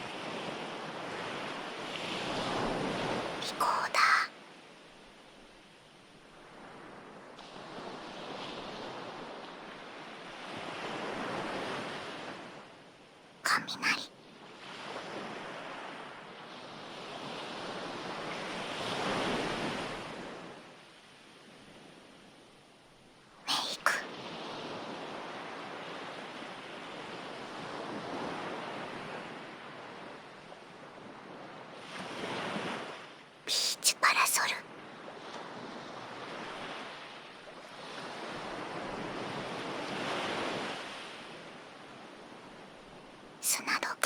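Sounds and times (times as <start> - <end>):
ocean waves washing onto shore: 0.0 - 13.4, 14.2 - 22.6, 24.0 - 43.4.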